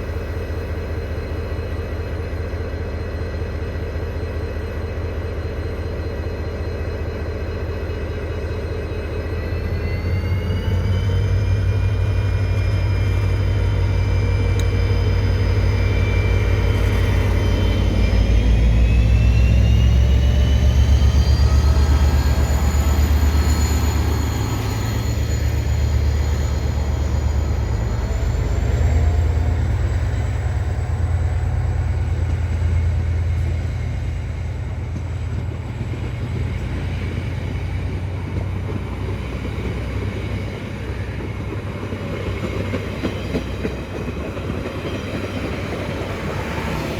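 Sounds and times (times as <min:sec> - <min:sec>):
locomotive engine with whine: 0:00.0 - 0:46.9.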